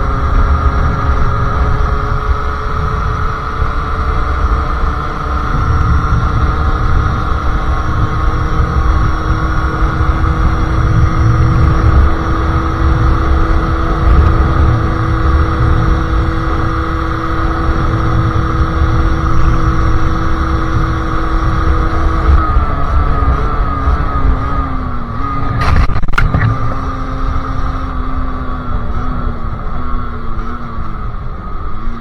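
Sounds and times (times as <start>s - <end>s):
heavy low rumble: 0.0s - 31.6s
two-stroke engine revving high: 0.0s - 32.0s.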